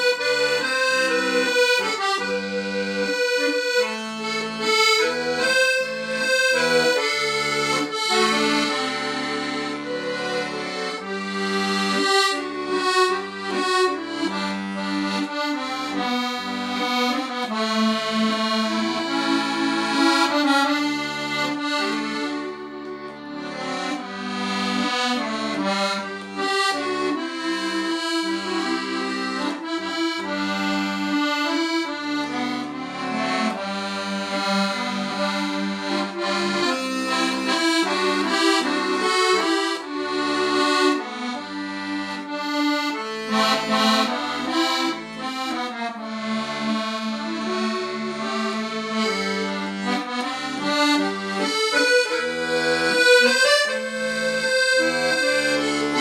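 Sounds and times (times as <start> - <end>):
accordion ballad: 0.0 - 56.0.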